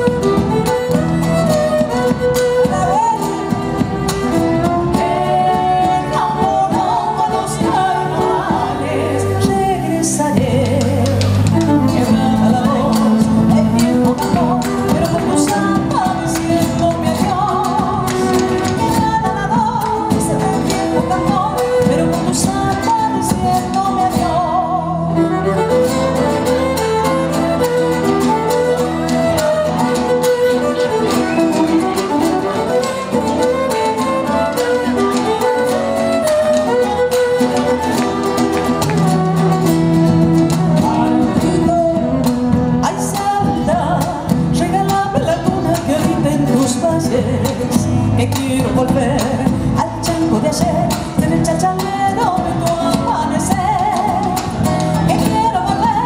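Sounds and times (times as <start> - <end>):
guitar: 0.0 - 56.0
violin: 0.0 - 56.0
woman singing: 0.0 - 56.0.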